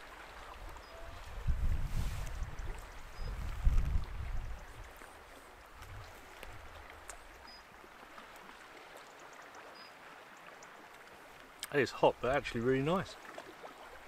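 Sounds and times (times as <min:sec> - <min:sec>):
light breeze: 0:00.0 - 0:14.0
sea: 0:00.0 - 0:14.0.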